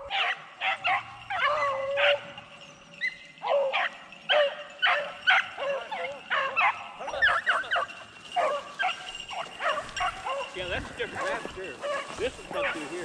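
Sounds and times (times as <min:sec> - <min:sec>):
dog baying: 0:00.0 - 0:13.0
dogs barking: 0:00.0 - 0:13.0.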